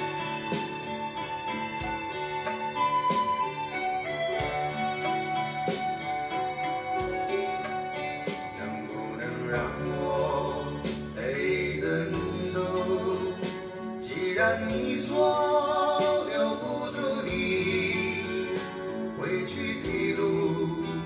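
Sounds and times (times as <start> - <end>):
recorded song over speakers: 0.0 - 21.0.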